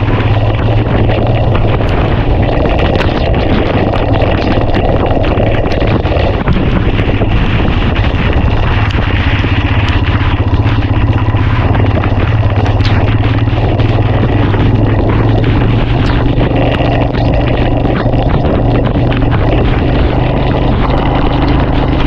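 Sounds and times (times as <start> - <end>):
motorcycle engine cruising: 0.0 - 22.0
rain ticking on microphone: 0.0 - 22.0
wind rush on microphone: 0.0 - 22.0.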